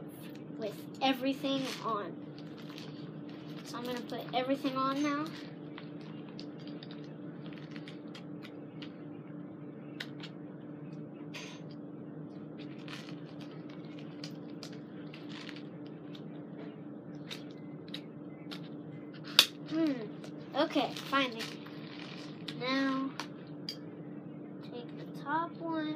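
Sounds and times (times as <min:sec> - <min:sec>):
steady background hum: 0:00.0 - 0:25.9.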